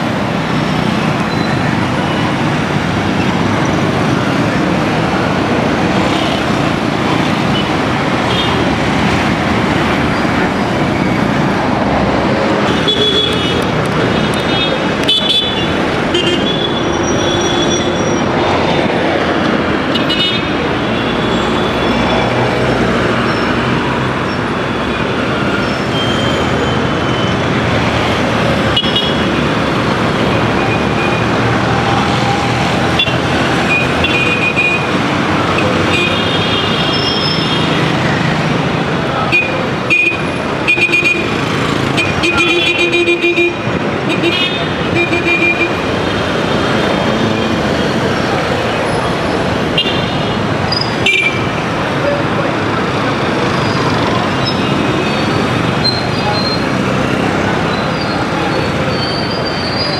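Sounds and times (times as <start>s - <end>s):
traffic engines din: 0.0s - 59.9s.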